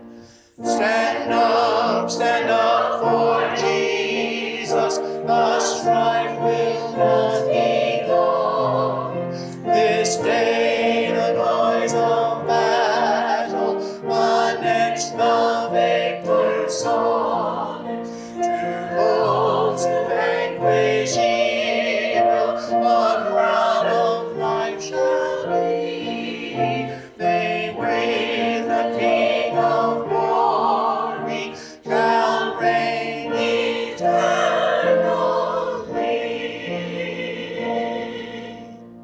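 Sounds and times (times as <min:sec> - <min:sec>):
hymn sung with vibrato: 0:00.4 - 0:38.7
steady accompaniment: 0:00.7 - 0:39.0.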